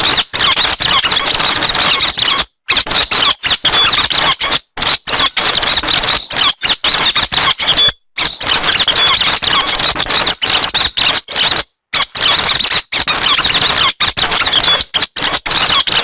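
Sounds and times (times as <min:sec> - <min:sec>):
bird chattering and squeaking: 0:00.0 - 0:16.0.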